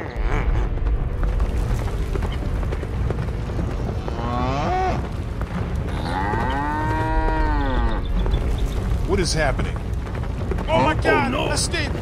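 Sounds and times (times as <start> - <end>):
stampeding hooves rumbling: 0.0 - 12.0.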